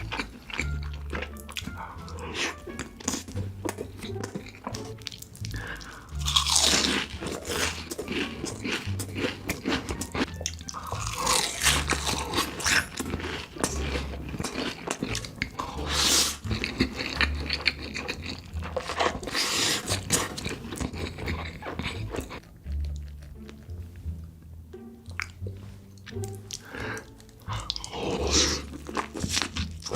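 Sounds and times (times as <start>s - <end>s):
crunchy chewing: 0.0s - 23.8s, 26.0s - 29.9s
quiet background music: 0.0s - 29.9s.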